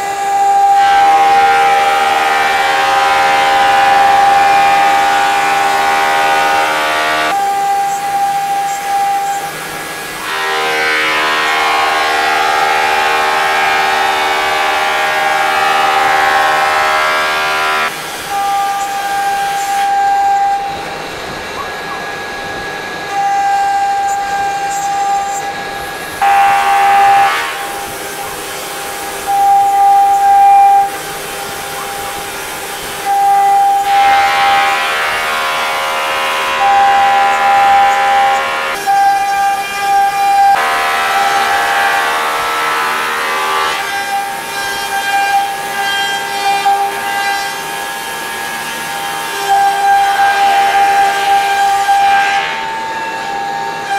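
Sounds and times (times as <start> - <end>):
router spindle whining: 0.0 - 53.9.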